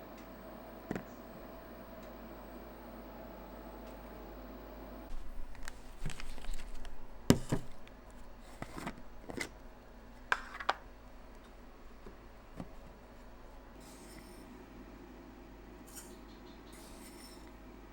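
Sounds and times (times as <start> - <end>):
faint room hum: 0.0 - 17.9.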